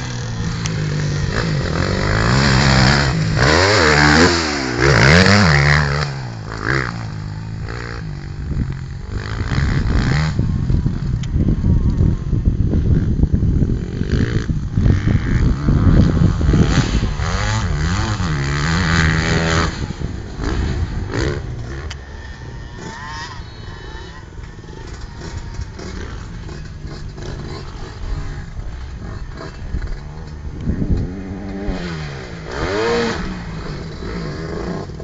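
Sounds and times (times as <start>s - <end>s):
motorbike engine revving: 0.0s - 35.0s.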